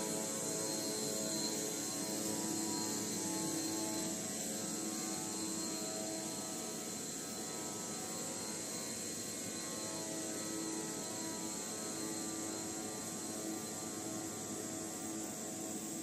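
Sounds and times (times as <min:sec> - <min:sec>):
faint whining tones: 0:00.0 - 0:16.0.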